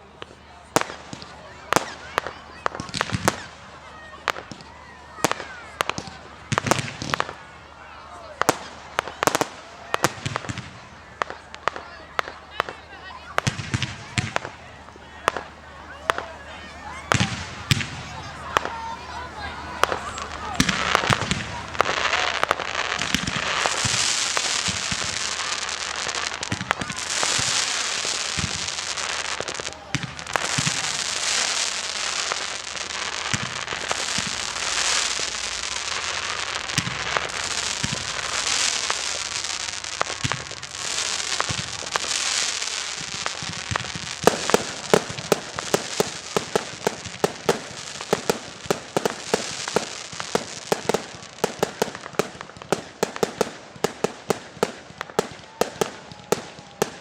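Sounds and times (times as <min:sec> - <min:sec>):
fireworks cracks and bangs: 0:00.0 - 0:57.0
fireworks hissing and crackling: 0:00.0 - 0:57.0.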